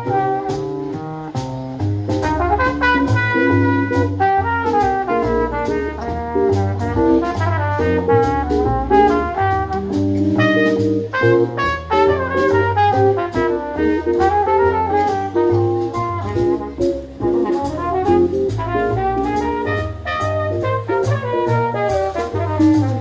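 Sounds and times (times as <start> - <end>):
brass horn melody: 0.0 - 23.0
live jazz combo: 0.0 - 23.0.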